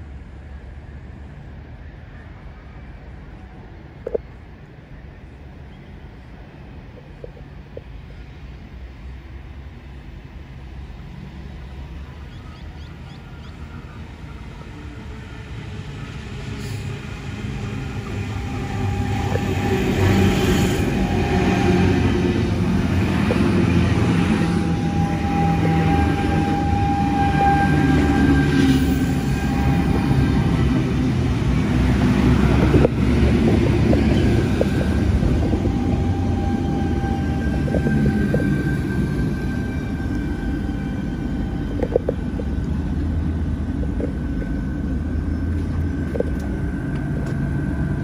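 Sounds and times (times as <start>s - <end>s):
high train whine: 0.0s - 48.0s
train wheels rumbling on rail: 0.0s - 48.0s.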